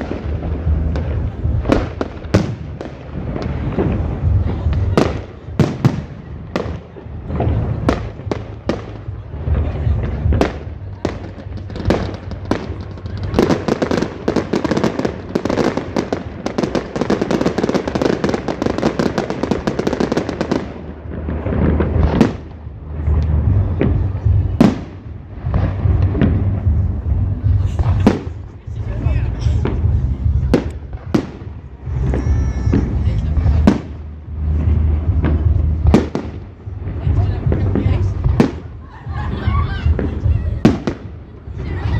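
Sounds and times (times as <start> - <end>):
firework bangs: 0.0 - 41.9
fireworks crackling: 0.0 - 41.9.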